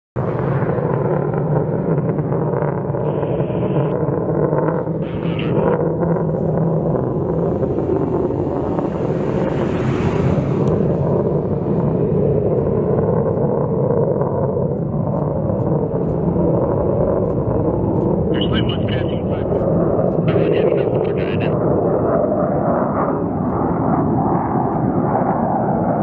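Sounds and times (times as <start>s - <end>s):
jet engines rumbling: 0.2s - 26.0s.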